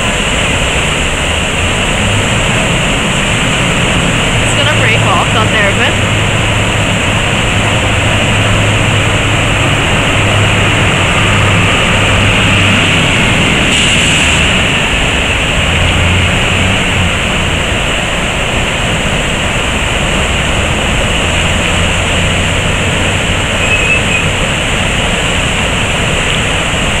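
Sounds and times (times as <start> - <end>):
flood water rushing: 0.0 - 27.0.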